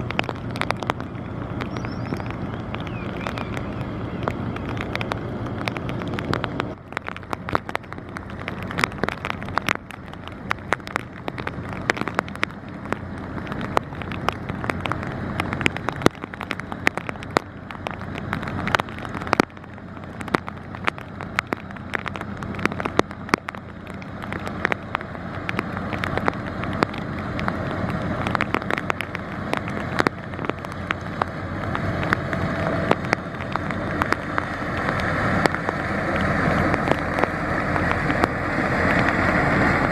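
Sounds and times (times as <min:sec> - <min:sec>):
diesel engine drone: 0:00.0 - 0:39.9
sharp crackles and clicks: 0:00.0 - 0:39.9.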